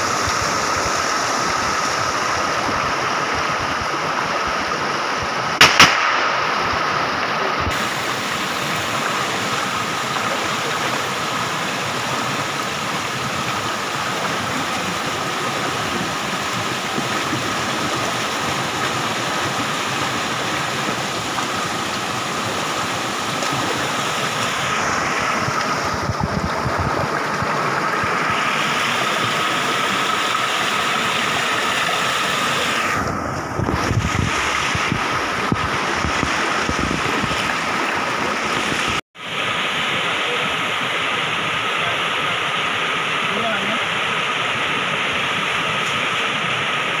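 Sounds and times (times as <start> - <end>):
stream rushing over rocks: 0.0 - 47.0.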